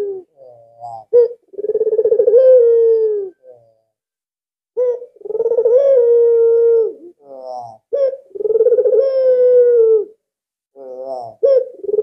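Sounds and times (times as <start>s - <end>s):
dove cooing: 0.0s - 3.8s, 4.8s - 10.2s, 10.8s - 12.0s.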